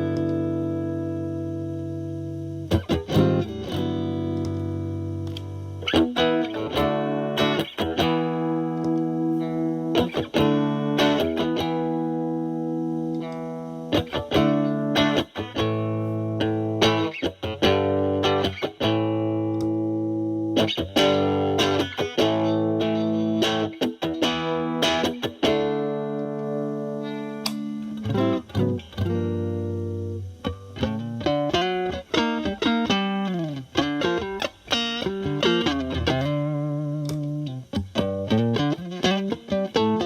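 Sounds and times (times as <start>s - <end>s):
lightly distorted electric guitar: 0.0s - 40.0s.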